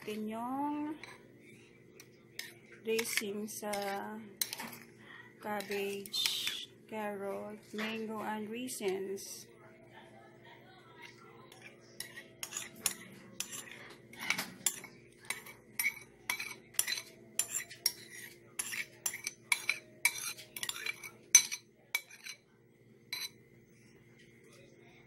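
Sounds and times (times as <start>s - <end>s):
metal spoon scraping a bowl: 0.0s - 9.5s, 11.0s - 22.5s, 23.1s - 23.4s.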